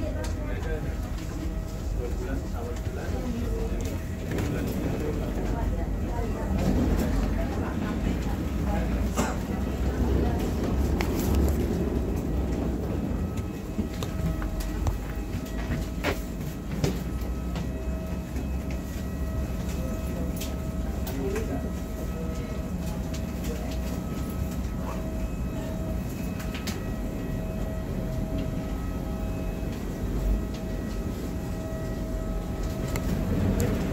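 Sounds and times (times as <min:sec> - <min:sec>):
machinery rumble and hum: 0:00.0 - 0:33.9
thin steady whine: 0:00.0 - 0:33.9
passengers shuffling clicks: 0:00.2 - 0:24.8, 0:29.6 - 0:33.9.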